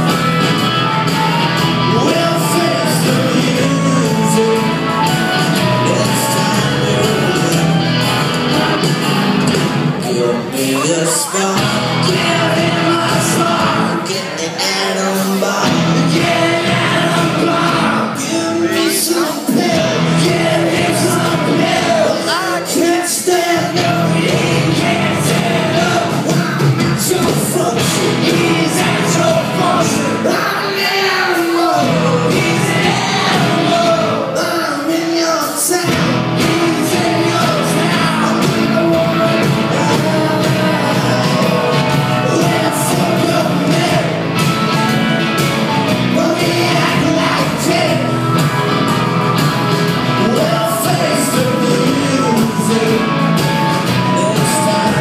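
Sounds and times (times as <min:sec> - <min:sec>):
drums: 0:00.0 - 0:55.0
electric guitars: 0:00.0 - 0:55.0
person singing: 0:01.1 - 0:09.0, 0:09.8 - 0:45.0, 0:45.6 - 0:55.0.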